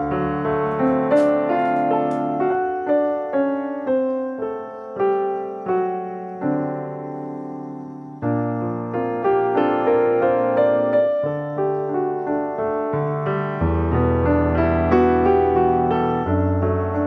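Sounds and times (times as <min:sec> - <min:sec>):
slow soft piano melody: 0:00.0 - 0:17.0.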